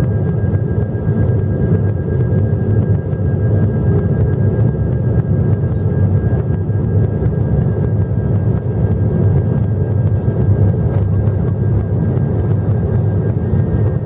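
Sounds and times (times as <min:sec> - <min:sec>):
faint high engine whine: 0:00.0 - 0:14.0
jet engine cabin rumble: 0:00.0 - 0:14.0.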